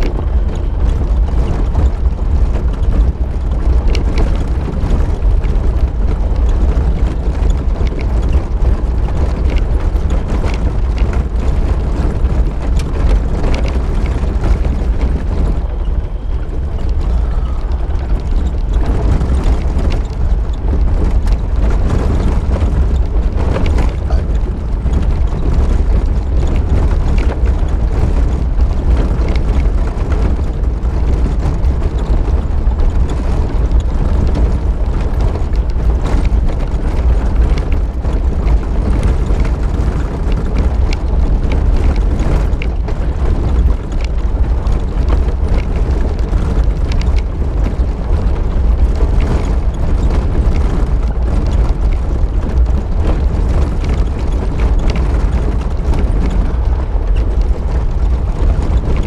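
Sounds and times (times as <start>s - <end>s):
knocks and rattles: 0.0s - 59.0s
vehicle rumbling on dirt track: 0.0s - 59.0s.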